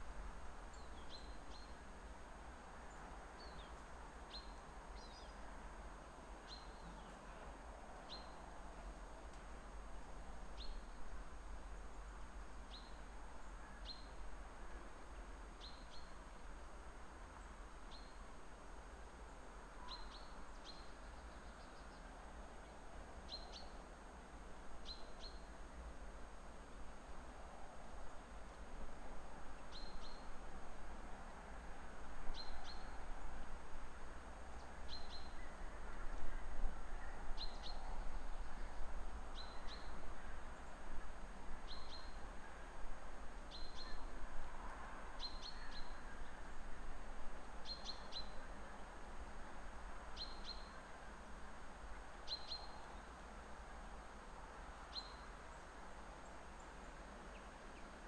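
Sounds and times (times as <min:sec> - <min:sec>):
faint hiss: 0:00.0 - 0:58.0.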